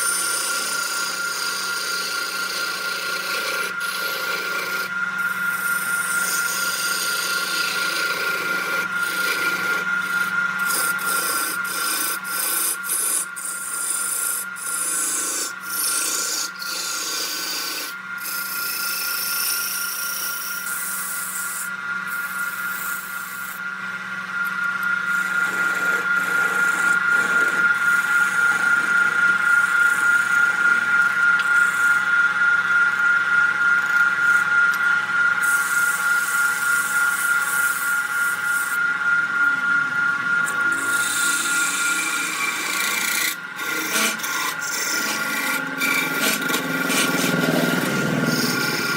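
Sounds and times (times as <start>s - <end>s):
turning tool scraping wood: 0.0s - 23.7s, 24.3s - 39.2s, 40.0s - 48.9s
lathe motor whine: 0.0s - 48.9s.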